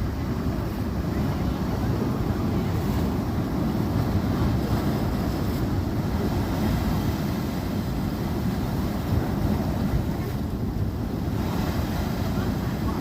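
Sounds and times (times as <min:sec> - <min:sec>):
ocean waves on a beach: 0:00.0 - 0:13.0
wind buffeting microphone: 0:00.0 - 0:13.0.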